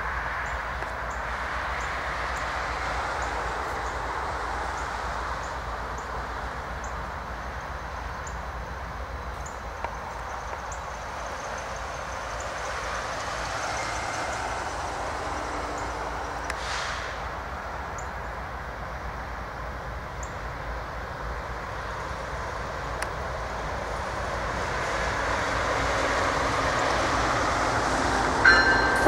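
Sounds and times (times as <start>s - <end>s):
locomotive engines rumbling: 0.0s - 29.0s.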